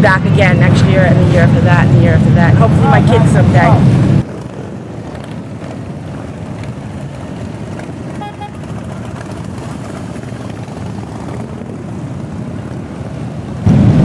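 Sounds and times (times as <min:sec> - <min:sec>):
motorcycles riding past: 0:00.1 - 0:13.7.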